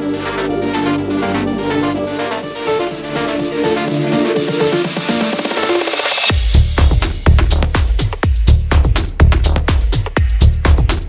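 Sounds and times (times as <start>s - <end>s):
electronic music with synth tones: 0.0s - 11.0s.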